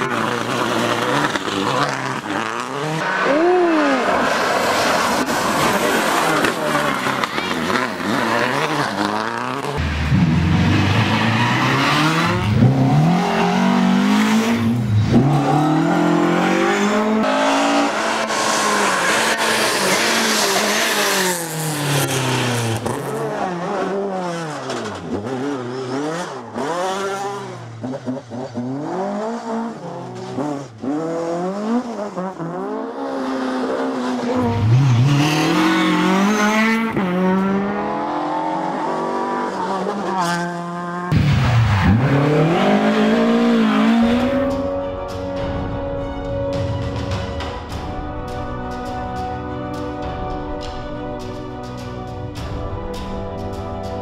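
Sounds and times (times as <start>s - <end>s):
rally car engines revving past: 0.0s - 46.4s.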